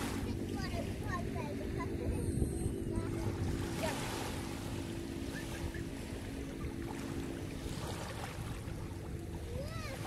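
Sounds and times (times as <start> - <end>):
low steady hum: 0.0 - 10.0
surf at the seashore: 0.0 - 10.0
wind: 0.0 - 10.0.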